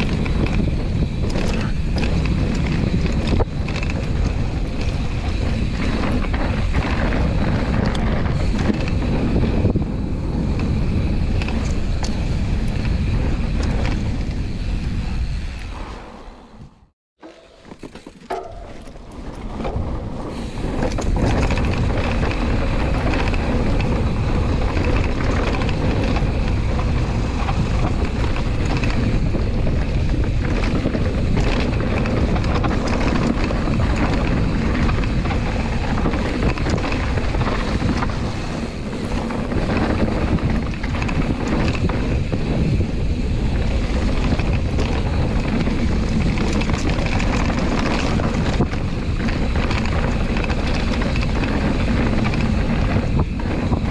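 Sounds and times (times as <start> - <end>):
wind buffeting microphone: 0.0 - 16.9, 18.3 - 53.9
bike rattling over bumps: 0.0 - 53.9
bike tyres rumbling: 0.0 - 53.9.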